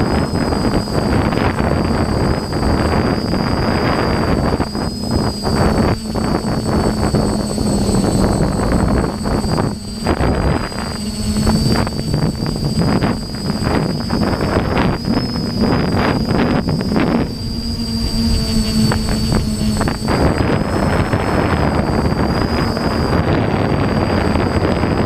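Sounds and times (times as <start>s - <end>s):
drone propellers whining: 0.0s - 25.0s
wind rush on microphone: 0.0s - 25.0s.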